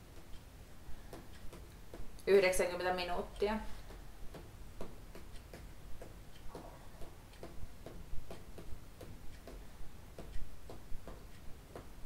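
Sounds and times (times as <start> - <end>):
regular ticking: 0.0 - 12.0.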